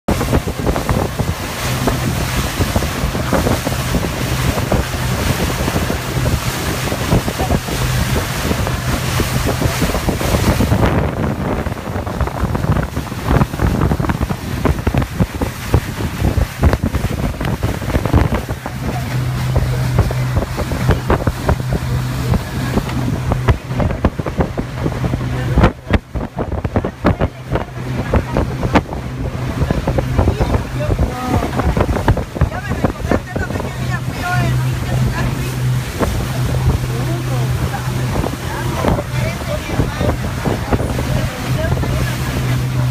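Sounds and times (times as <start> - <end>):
motorboat engine humming: 0.0 - 42.9
water splashing against hull: 0.0 - 42.9
wind buffeting microphone: 0.0 - 42.9.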